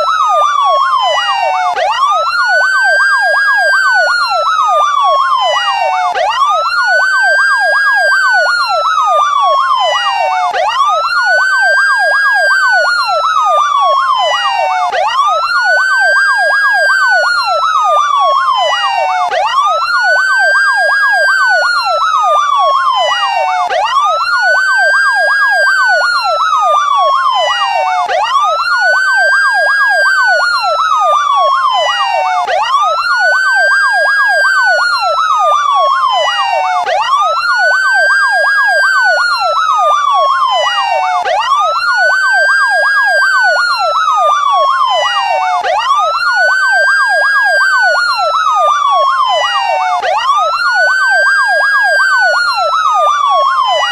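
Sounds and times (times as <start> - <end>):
police siren wail: 0.0 - 53.9
police siren yelp: 0.0 - 53.9.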